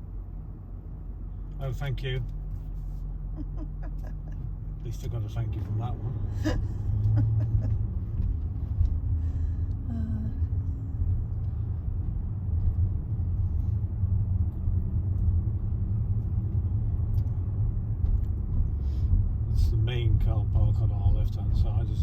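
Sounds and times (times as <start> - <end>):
road and engine rumble in car: 0.0 - 22.0.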